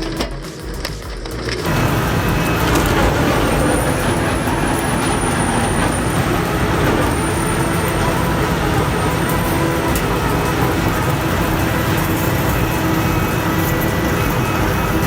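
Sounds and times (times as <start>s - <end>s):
grinding noise: 0.0s - 15.0s
heavy machine engine rumble: 0.0s - 15.0s
thin high whine: 1.4s - 15.0s.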